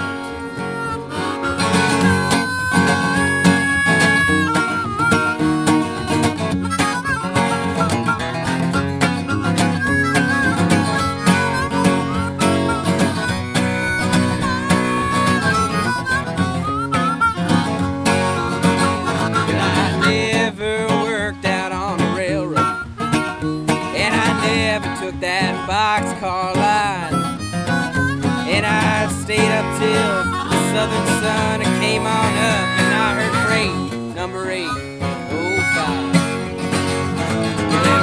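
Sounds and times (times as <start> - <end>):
acoustic guitar strumming: 0.0 - 38.0
harmonica melody: 0.0 - 38.0.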